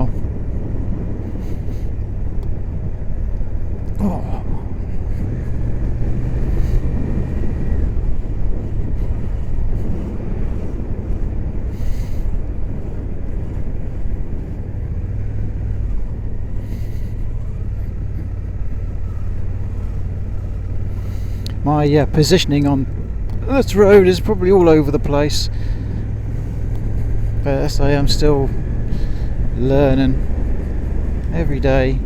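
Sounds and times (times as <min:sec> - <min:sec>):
motorcycle engine running: 0:00.0 - 0:32.0
wind rush: 0:00.0 - 0:32.0.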